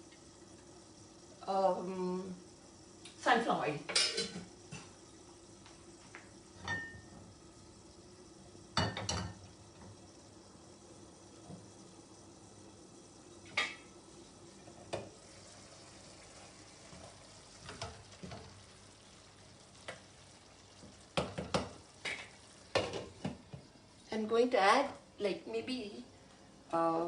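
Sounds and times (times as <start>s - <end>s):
faint steady background noise: 0.0s - 27.0s.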